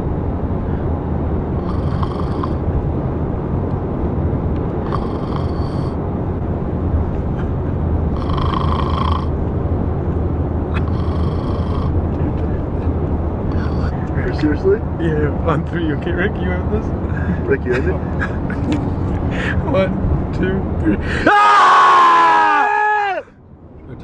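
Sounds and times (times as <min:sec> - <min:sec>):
high-pitched whine: 0:00.0 - 0:21.0.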